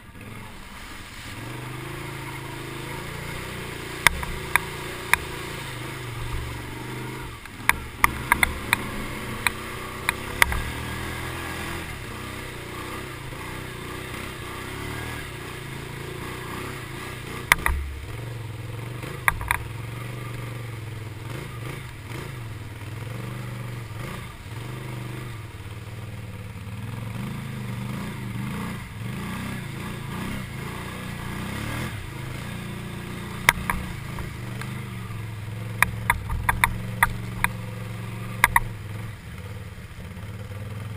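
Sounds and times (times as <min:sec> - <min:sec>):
water splashing: 0:00.0 - 0:26.2, 0:30.4 - 0:39.4
quad engine running: 0:00.0 - 0:40.9.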